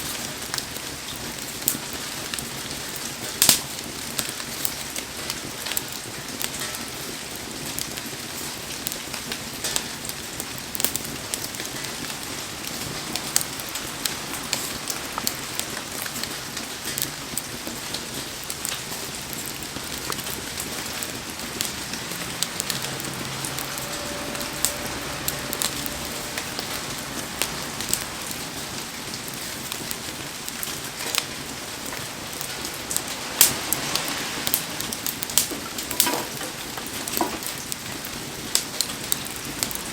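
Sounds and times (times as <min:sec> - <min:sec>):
campfire crackling: 0:00.0 - 0:39.9
heavy rain falling: 0:00.0 - 0:39.9.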